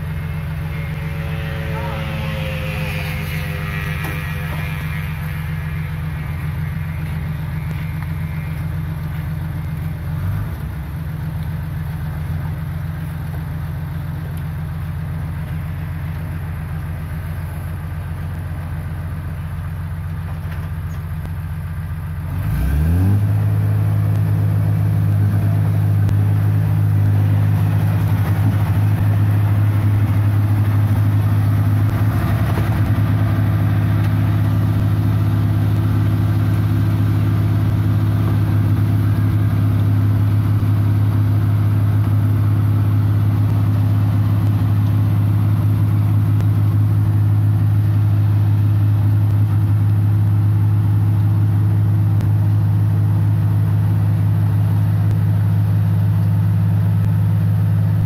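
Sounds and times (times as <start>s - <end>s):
combine harvester engine revving: 0.0s - 58.0s.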